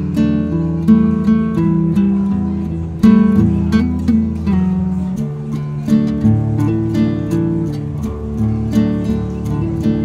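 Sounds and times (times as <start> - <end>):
acoustic guitar chords plucked: 0.0 - 10.0.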